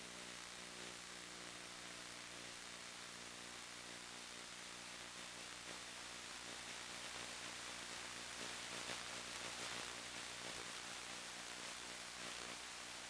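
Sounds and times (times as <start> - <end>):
faint low hum: 0.0 - 13.0
static hiss: 0.0 - 13.0.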